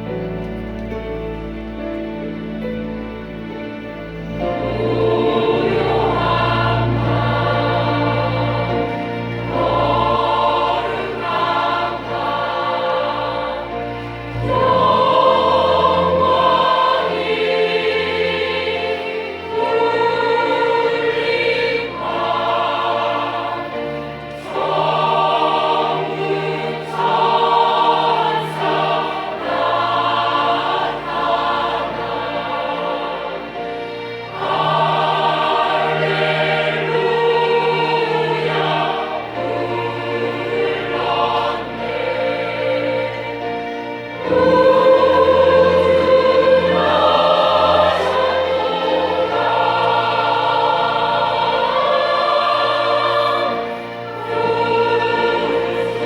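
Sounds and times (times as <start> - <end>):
church choir singing: 0.0 - 56.0
low sustained accompaniment: 0.0 - 56.0.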